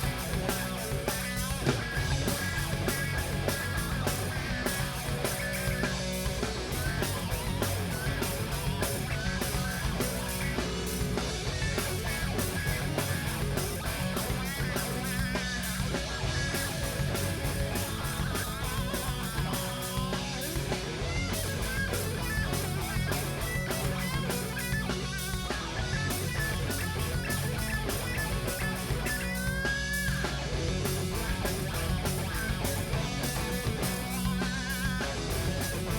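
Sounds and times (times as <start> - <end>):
bass guitar: 0.0 - 35.9
electric guitars: 0.0 - 35.9
steady drum beat: 0.0 - 35.9.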